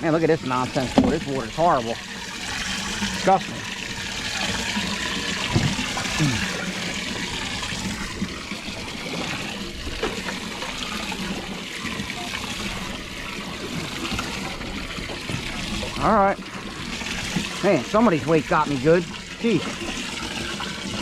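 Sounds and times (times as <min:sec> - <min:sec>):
water spraying and trickling: 0:00.0 - 0:21.0.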